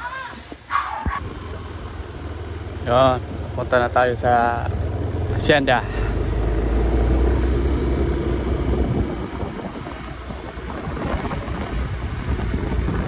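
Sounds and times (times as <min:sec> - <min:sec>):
road noise: 0:00.0 - 0:13.0
vehicle engine rumbling: 0:00.4 - 0:13.0.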